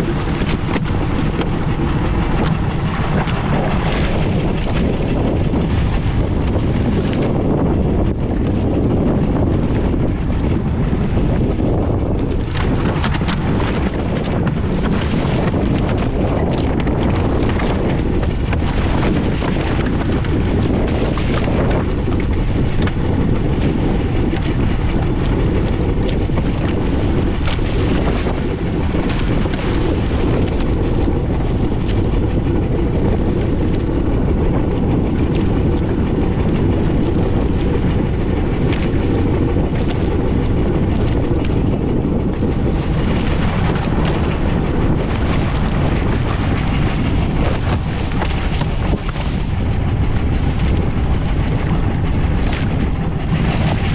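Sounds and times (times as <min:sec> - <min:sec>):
boat engine rumble: 0:00.0 - 0:53.9
wind buffeting microphone: 0:00.0 - 0:53.9.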